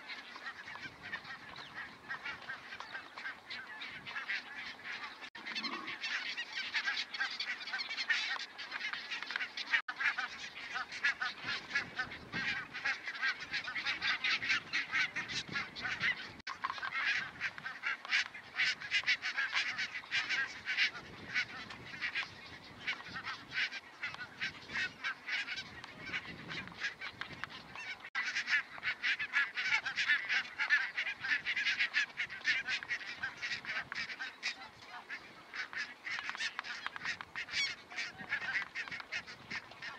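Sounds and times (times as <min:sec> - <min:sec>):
geese honking in a chorus: 0:00.0 - 0:39.9.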